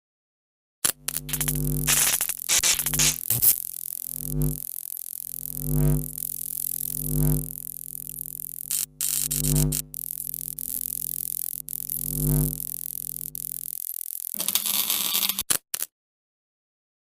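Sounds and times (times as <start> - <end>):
electrical buzz: 0.8 - 15.4
crackling electric sparks: 0.8 - 15.9.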